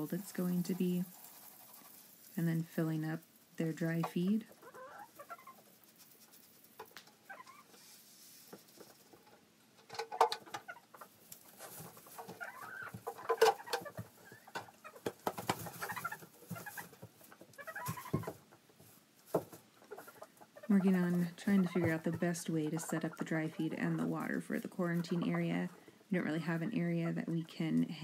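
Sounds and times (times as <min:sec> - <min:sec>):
hens clucking: 0:00.0 - 0:28.0.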